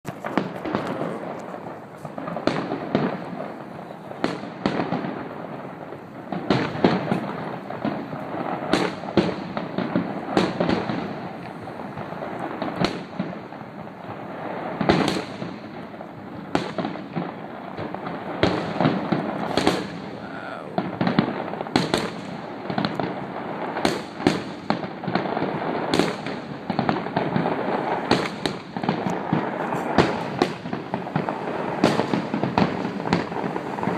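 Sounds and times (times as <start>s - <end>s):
fireworks bangs: 0.1s - 33.9s
fireworks crackling: 0.1s - 33.9s.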